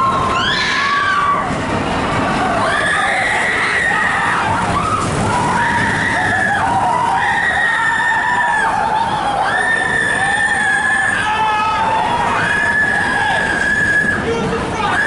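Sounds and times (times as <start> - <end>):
roller coaster wind and track noise: 0.0 - 15.0
wheels squealing on track: 2.4 - 15.0.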